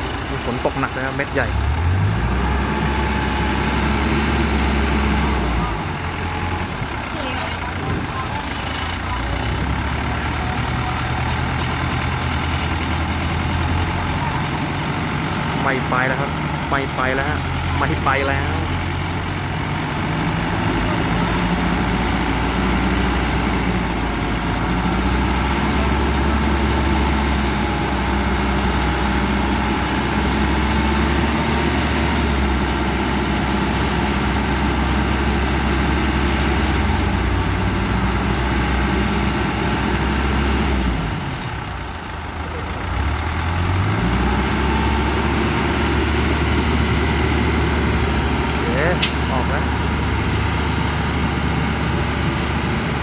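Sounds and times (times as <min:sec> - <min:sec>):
tractor engine revving under load: 0:00.0 - 0:53.0.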